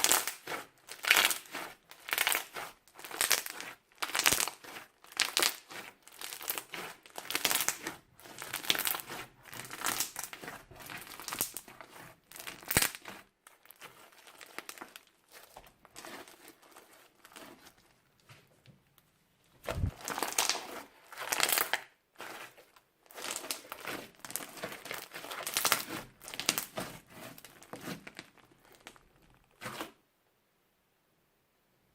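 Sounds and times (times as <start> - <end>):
crunchy slime being squeezed: 0.0 - 17.7, 19.6 - 30.0.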